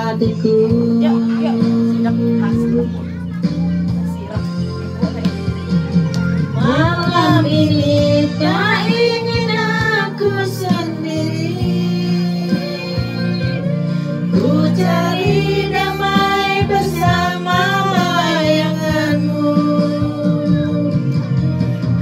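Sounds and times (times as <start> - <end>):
woman singing into microphone: 0.0 - 3.2, 6.4 - 21.3
backing track music: 0.0 - 22.0.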